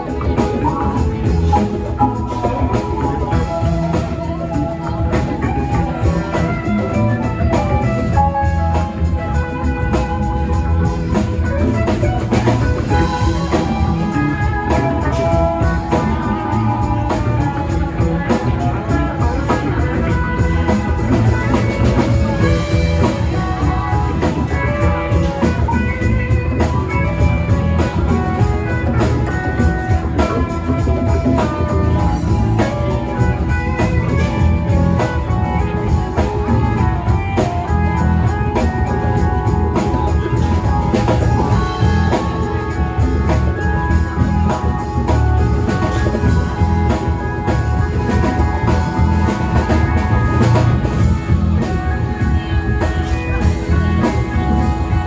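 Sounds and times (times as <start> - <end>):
drum kit and bass: 0.0 - 55.0
electric guitar melodic run: 0.0 - 55.0.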